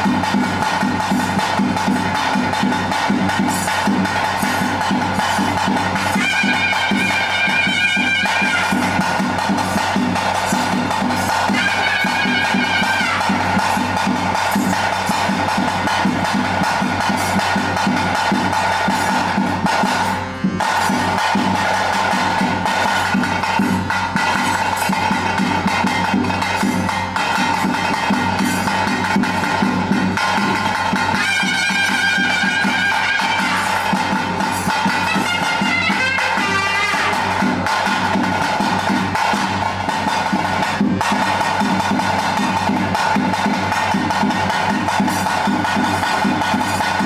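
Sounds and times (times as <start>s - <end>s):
fast drumming: 0.0s - 47.0s.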